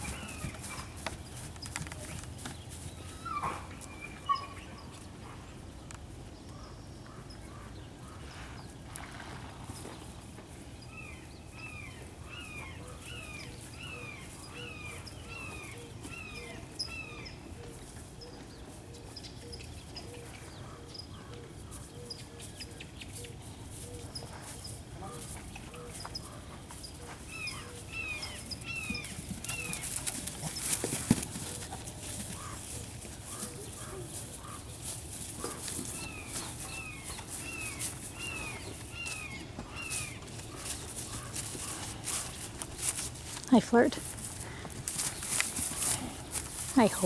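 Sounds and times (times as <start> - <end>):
birds chirping: 0.0 - 47.0
outdoor background noise: 0.0 - 47.0.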